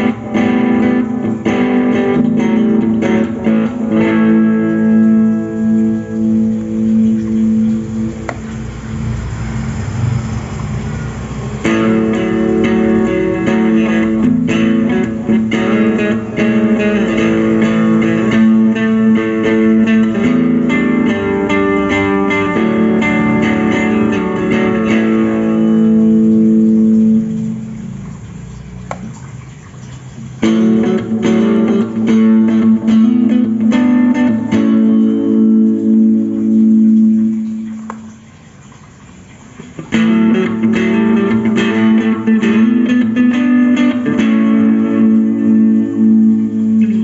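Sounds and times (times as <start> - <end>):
electric guitar sustained notes: 0.0 - 28.3, 30.4 - 38.3, 39.8 - 47.0.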